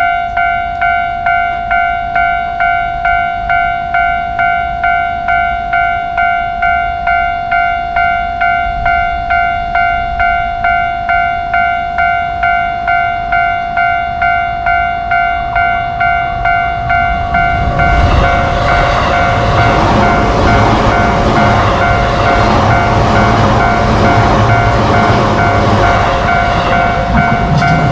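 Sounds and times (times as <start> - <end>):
level-crossing bell ringing: 0.0 - 27.9
train rumbling: 0.0 - 27.9.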